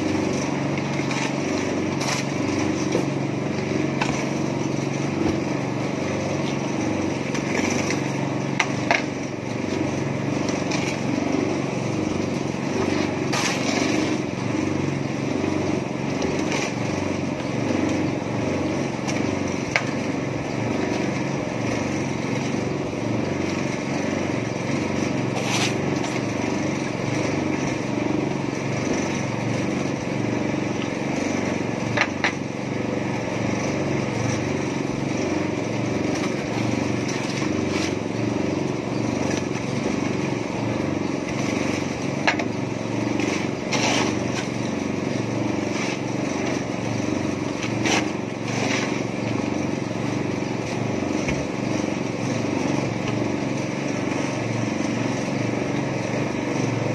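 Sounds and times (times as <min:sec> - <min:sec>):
small petrol engine running: 0:00.0 - 0:56.9.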